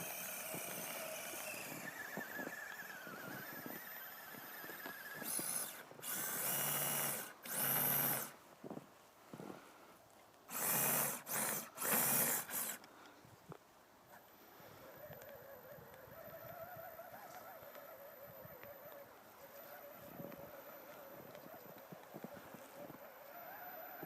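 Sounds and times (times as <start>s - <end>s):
electric motor whining: 0.0s - 8.4s, 10.5s - 12.8s, 14.8s - 24.0s.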